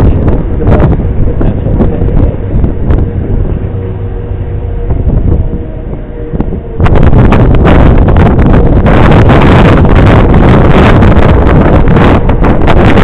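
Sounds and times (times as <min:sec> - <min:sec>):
distant tornado warning siren: 0:00.0 - 0:13.0
wind buffeting microphone: 0:00.0 - 0:13.0.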